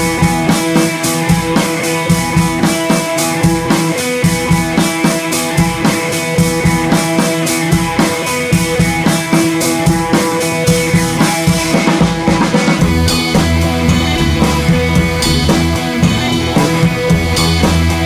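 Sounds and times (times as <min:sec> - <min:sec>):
music with drum beat and guitar: 0:00.0 - 0:18.0.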